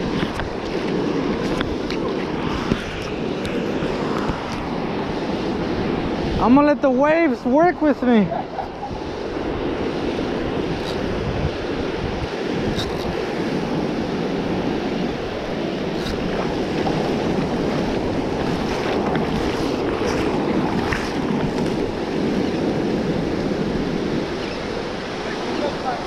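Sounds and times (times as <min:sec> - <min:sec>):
ocean surf on beach: 0:00.0 - 0:26.0
wind rumbling on microphone: 0:00.0 - 0:26.0.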